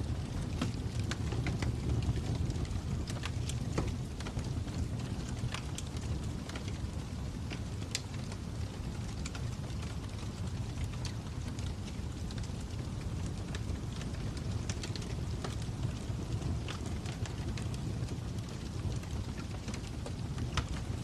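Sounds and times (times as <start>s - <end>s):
fire crackling: 0.0s - 21.0s
fire popping and snapping: 0.0s - 21.0s.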